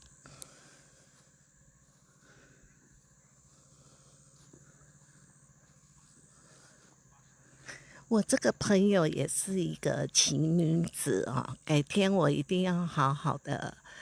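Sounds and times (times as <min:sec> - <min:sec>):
faint low hum: 0:00.0 - 0:14.0
high background hiss: 0:00.0 - 0:14.0.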